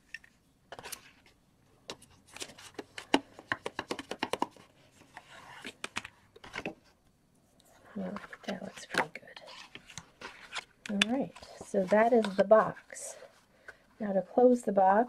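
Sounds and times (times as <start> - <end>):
cardstock rustling and creasing: 0.1 - 6.9, 7.8 - 13.8.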